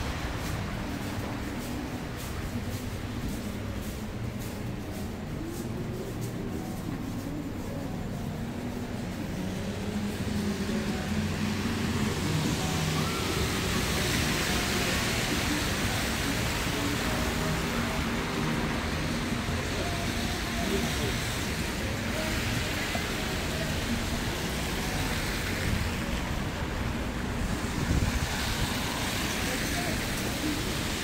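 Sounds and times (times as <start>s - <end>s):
cars passing on snowy road: 0.0s - 31.0s.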